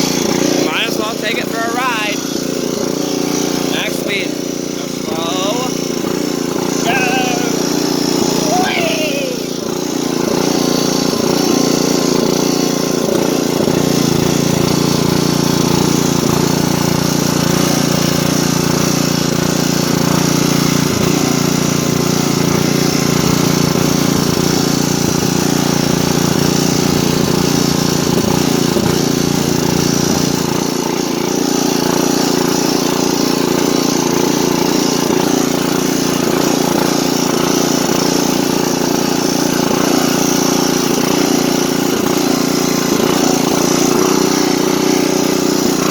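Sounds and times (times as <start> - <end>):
lawn tractor engine running: 0.0 - 45.9.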